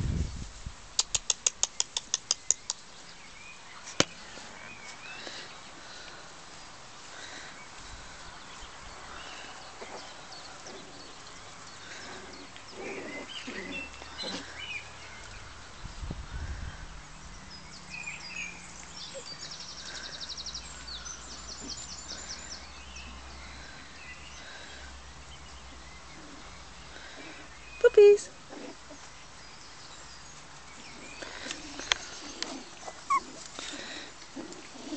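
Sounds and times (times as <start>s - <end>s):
birds chirping: 1.3s - 34.9s.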